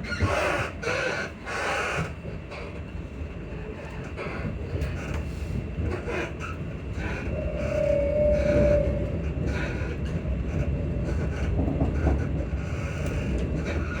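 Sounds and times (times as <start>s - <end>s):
train running low rumble: 0.0s - 14.0s.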